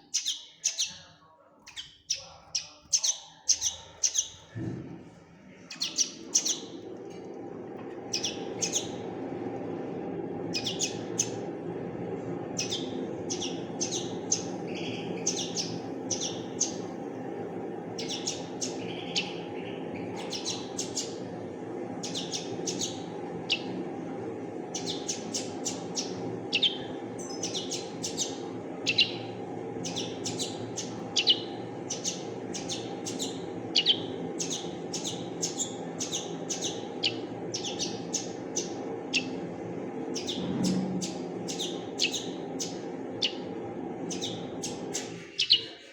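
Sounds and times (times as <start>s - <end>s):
bird chirping: 0.0s - 4.5s, 5.7s - 6.8s, 8.1s - 9.0s, 10.5s - 11.4s, 12.6s - 17.0s, 17.9s - 21.2s, 22.0s - 23.8s, 24.7s - 39.4s, 40.1s - 43.5s, 44.1s - 45.9s
steady low hum: 0.0s - 45.9s.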